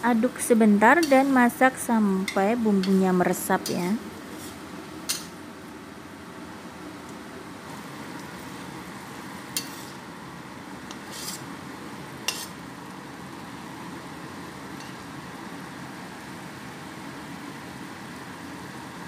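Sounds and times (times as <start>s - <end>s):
cooking hiss: 0.0s - 19.0s.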